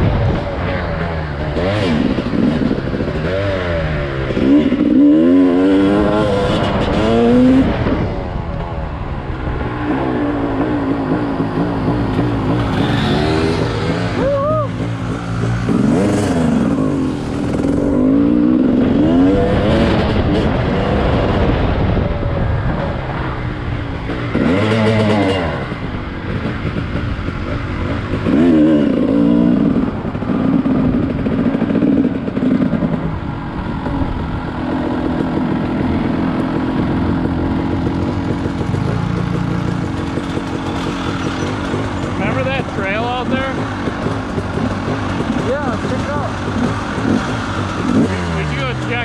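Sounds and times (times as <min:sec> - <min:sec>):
vehicle engine revving: 0:00.0 - 0:49.0.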